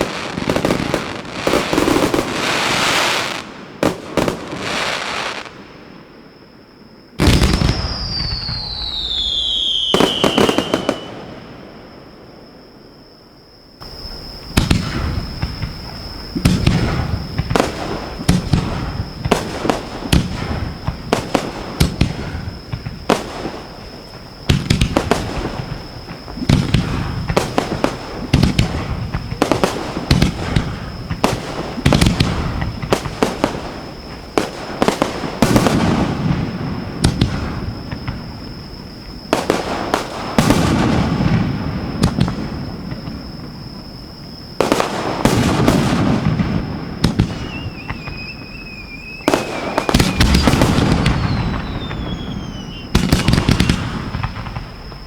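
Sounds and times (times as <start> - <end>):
fireworks cracking and booming: 0.0 - 6.0, 7.1 - 12.6, 13.8 - 55.0.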